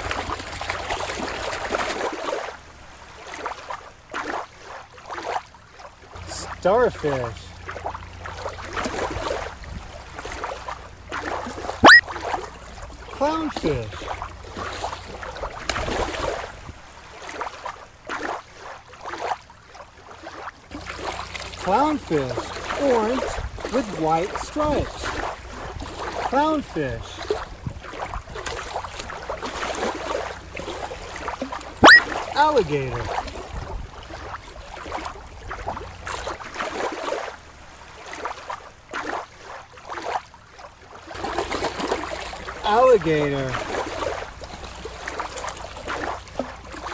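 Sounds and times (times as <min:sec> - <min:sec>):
river water lapping and splashing: 0:00.0 - 0:46.9.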